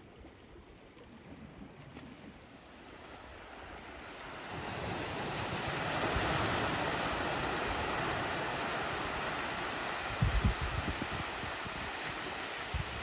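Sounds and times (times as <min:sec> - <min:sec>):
waves washing over cobble beach: 0:01.0 - 0:13.0.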